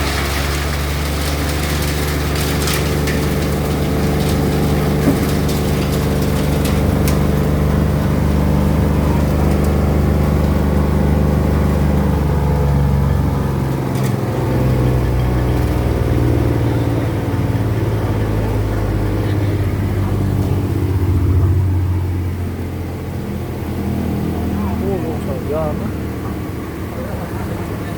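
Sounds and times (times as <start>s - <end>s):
machine engine droning: 0.0s - 27.9s.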